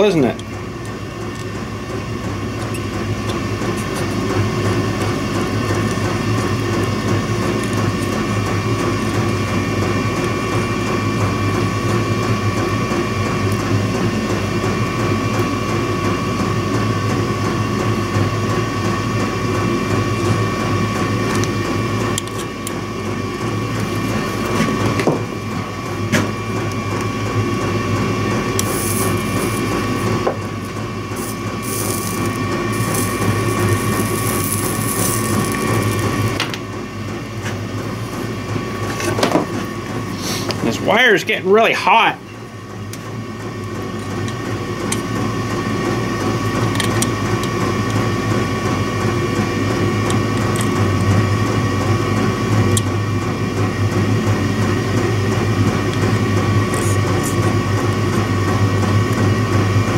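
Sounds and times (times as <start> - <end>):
electrical buzzing hum: 0.0 - 59.9.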